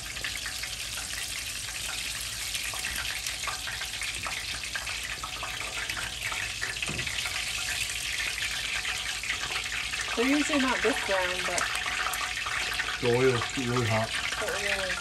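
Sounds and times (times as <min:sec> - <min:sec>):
food deep frying in oil: 0:00.0 - 0:15.0.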